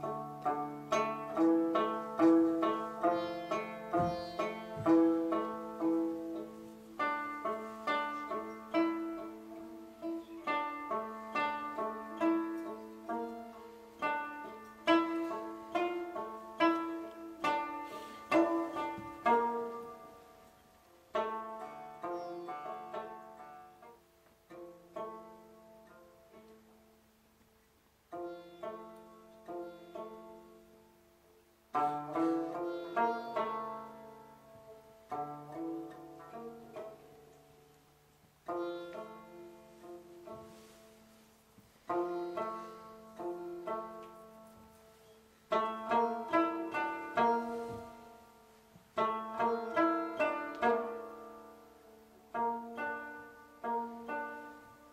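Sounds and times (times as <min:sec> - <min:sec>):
plucked lute melody: 0:00.0 - 0:54.9.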